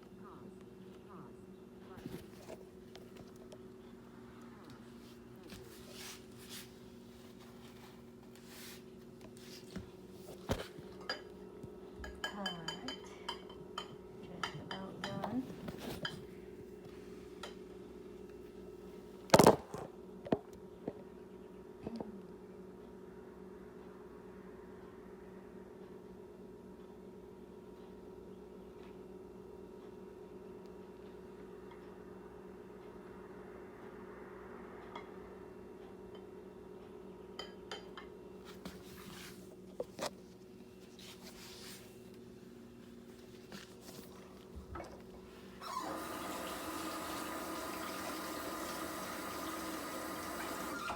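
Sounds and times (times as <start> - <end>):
steady low hum: 0.0 - 45.6.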